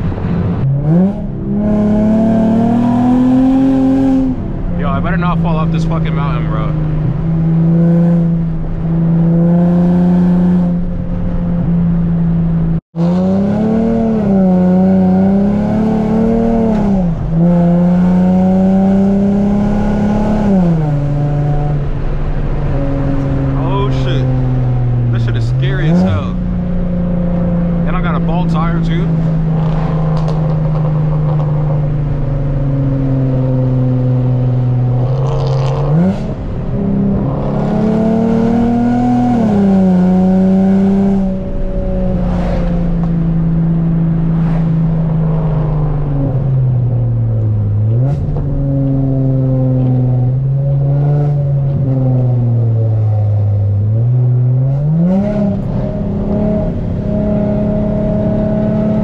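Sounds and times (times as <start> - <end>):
car engine revving through exhaust: 0.0 - 59.0.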